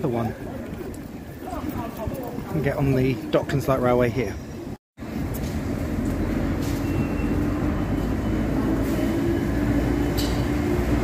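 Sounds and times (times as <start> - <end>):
railway station rumble and hum: 0.0 - 11.0.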